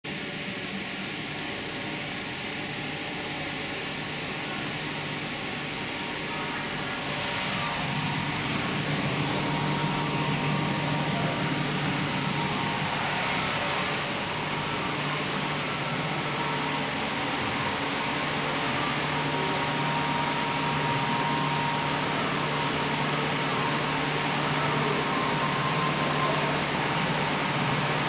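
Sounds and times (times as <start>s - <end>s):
ventilation machinery hum: 0.0s - 28.0s.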